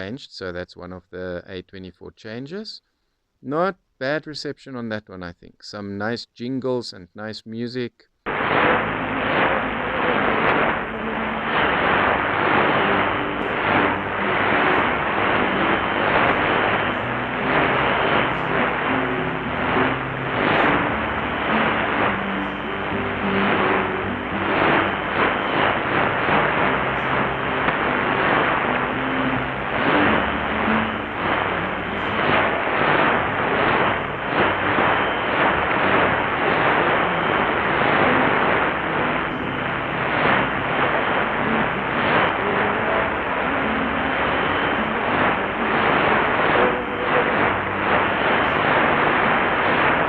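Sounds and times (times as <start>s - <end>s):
faint music on radio: 0.0s - 50.0s
radio static hiss: 0.0s - 50.0s.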